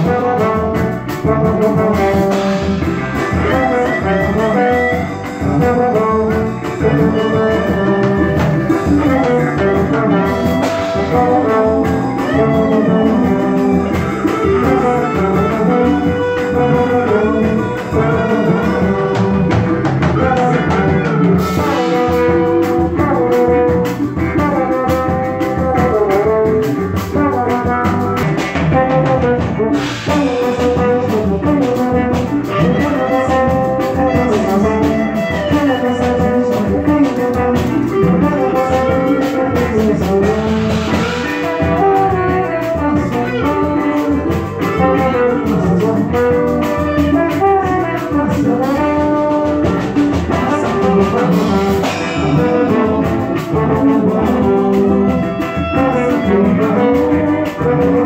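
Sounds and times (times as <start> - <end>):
drum kit: 0.0 - 58.0
electric guitar: 0.0 - 58.0
trombone melody: 0.0 - 58.0.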